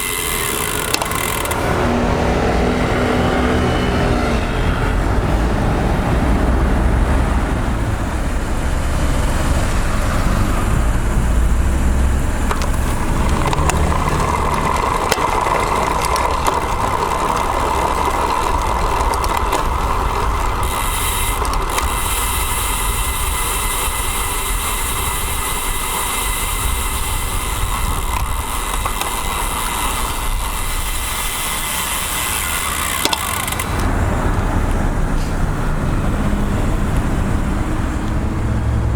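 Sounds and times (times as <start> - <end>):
road traffic: 0.0 - 38.9.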